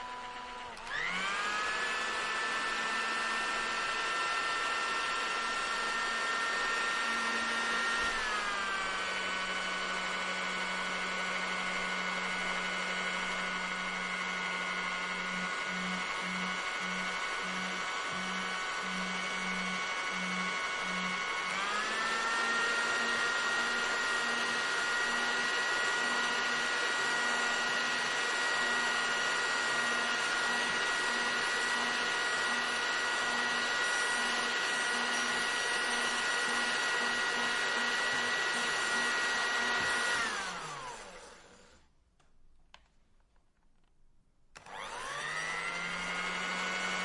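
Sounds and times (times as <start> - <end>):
hair dryer running: 0.0 - 41.9, 44.5 - 47.0.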